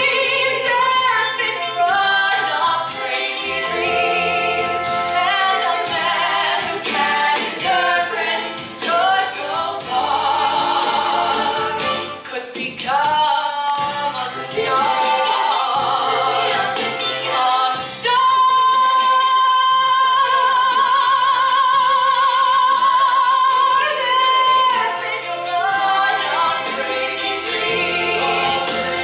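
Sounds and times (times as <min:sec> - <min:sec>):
musical accompaniment: 0:00.0 - 0:29.0
woman singing: 0:00.0 - 0:29.0.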